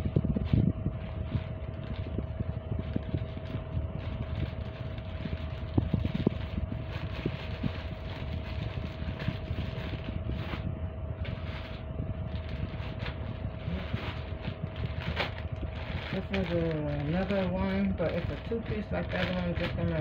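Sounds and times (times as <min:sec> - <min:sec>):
low background hum: 0:00.0 - 0:20.0
thin constant whine: 0:00.0 - 0:20.0
plastic bags crinkling: 0:00.5 - 0:10.6, 0:11.2 - 0:20.0.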